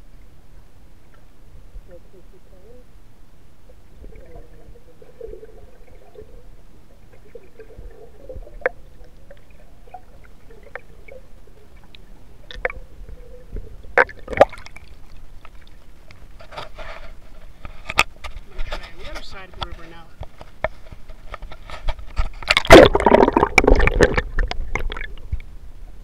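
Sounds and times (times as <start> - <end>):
muffled underwater river wash: 0.0 - 18.3, 22.0 - 26.0.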